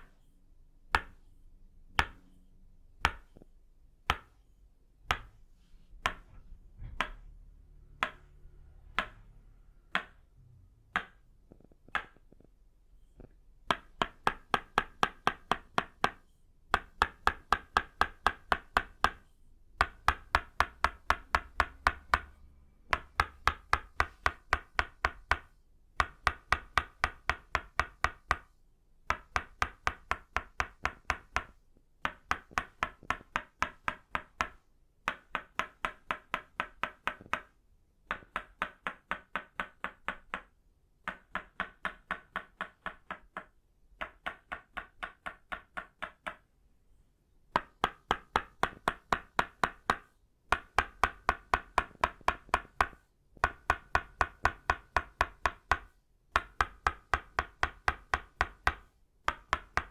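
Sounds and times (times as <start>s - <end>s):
wooden mallet striking wooden peg: 0.9s - 1.2s, 2.0s - 2.2s, 3.0s - 3.4s, 4.0s - 4.4s, 5.1s - 5.4s, 6.0s - 12.4s, 13.2s - 19.2s, 19.8s - 28.5s, 29.1s - 37.5s, 38.1s - 46.4s, 47.5s - 59.9s.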